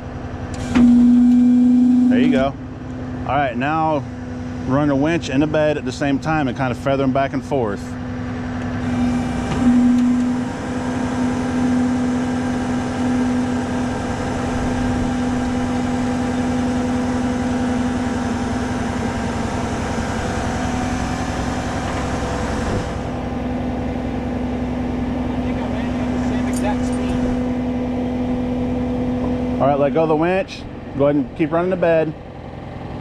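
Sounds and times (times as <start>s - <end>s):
hydraulic winch hum: 0.0s - 3.3s, 7.9s - 33.0s.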